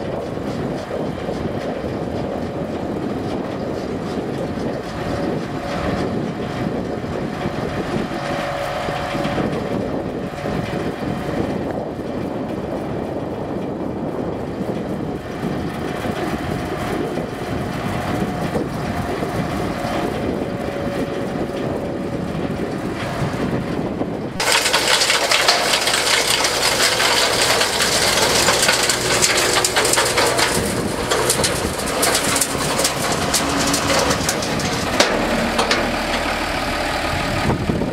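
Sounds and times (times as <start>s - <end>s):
compost churning and crackling: 0.0s - 37.9s
tractor running: 0.0s - 37.9s.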